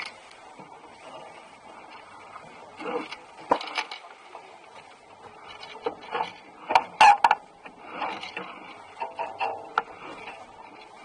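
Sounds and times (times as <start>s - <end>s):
knocks and clatter on a dinghy: 0.0s - 11.0s
wind and water wash: 0.0s - 11.0s.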